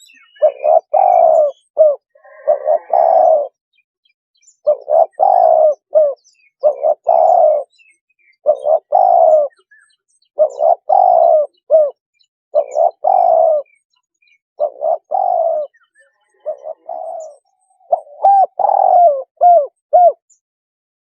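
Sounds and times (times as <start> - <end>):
dove cooing: 0.0 - 3.6, 4.6 - 7.8, 8.4 - 12.0, 12.6 - 13.8, 14.6 - 20.4.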